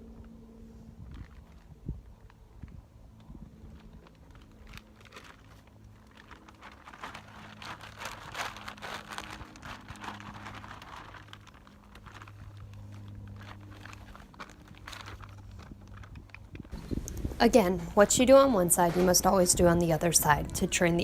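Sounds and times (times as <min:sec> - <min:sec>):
feed sack crinkling: 0:01.0 - 0:21.0.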